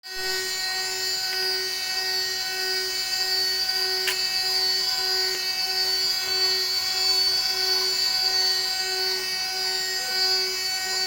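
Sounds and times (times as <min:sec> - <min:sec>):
milling spindle high-pitched whine: 0:00.0 - 0:11.0.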